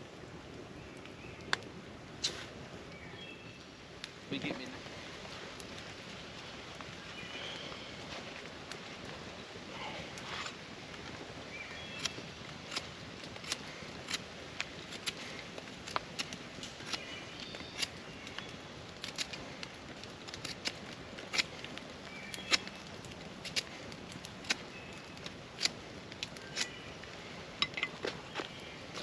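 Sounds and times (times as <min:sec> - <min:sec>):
campfire crackling: 0:00.0 - 0:29.0
fire popping: 0:00.1 - 0:29.0.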